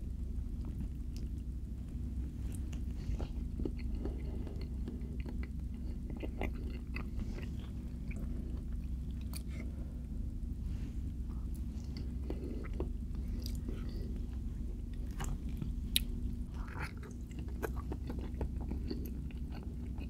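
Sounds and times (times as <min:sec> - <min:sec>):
low hum: 0:00.0 - 0:20.0
person chewing food: 0:00.5 - 0:10.1, 0:11.1 - 0:20.0.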